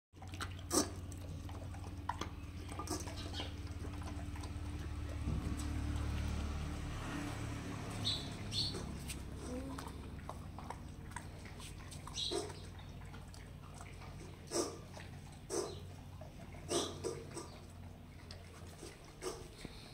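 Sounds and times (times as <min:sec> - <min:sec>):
dogs crunching kibble: 0:00.2 - 0:19.9
low steady hum: 0:00.2 - 0:19.9.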